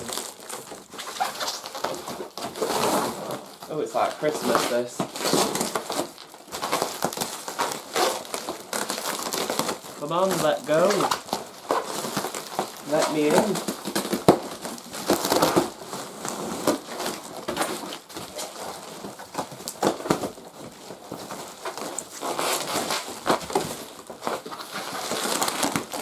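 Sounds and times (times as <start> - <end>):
cardboard crinkling and scraping: 0.0 - 26.0.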